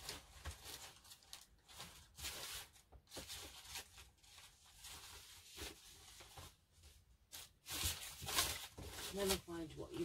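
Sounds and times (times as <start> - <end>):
paper rustling and shuffling: 0.0 - 10.0.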